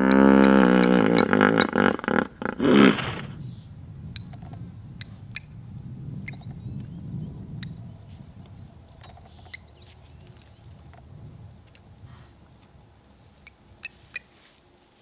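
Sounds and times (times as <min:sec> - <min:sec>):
low steady rumble: 0:00.0 - 0:14.4.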